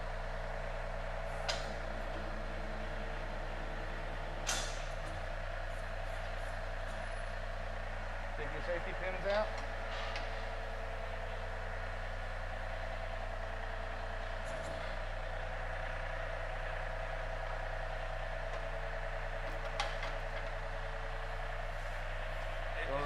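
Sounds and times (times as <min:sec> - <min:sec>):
diesel tractor engine idling: 0:00.0 - 0:23.0.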